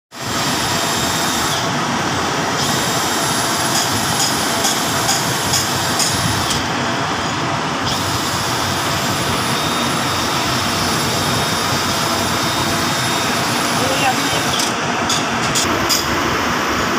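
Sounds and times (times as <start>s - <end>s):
machinery running: 0.2s - 16.9s.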